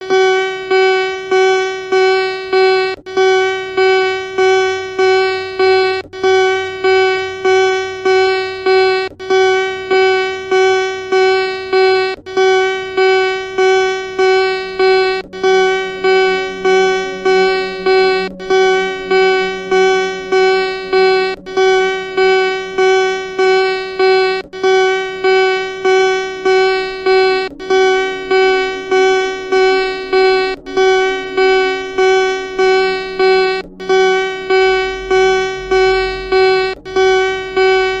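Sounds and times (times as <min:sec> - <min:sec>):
pulsing buzzy alarm tone: 0:00.0 - 0:38.0.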